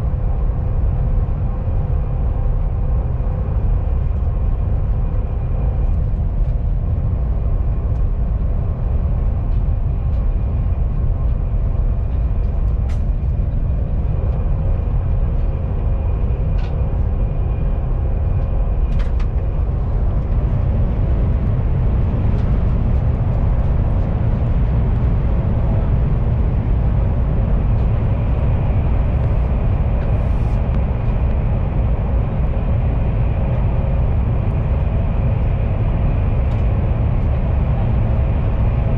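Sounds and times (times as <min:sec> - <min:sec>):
faint steady whine: 0:00.0 - 0:38.9
train carriage rumble: 0:00.0 - 0:38.9.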